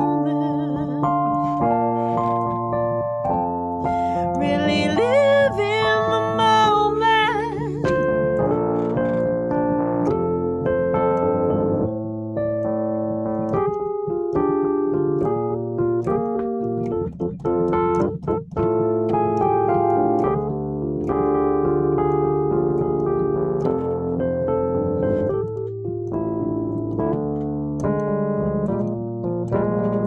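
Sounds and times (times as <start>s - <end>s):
electric piano chords: 0.0s - 30.0s.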